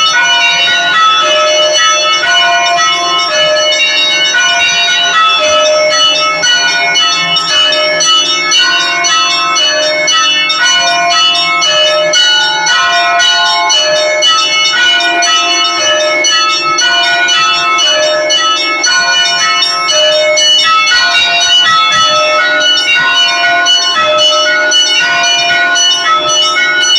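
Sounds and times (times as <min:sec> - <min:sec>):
deep large bells ringing: 0:00.0 - 0:26.9
small high bells: 0:00.0 - 0:26.9.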